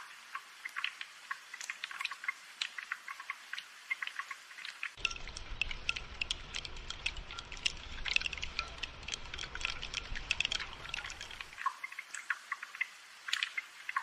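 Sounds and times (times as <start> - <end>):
rain dripping on hard surfaces: 0.0 - 14.0.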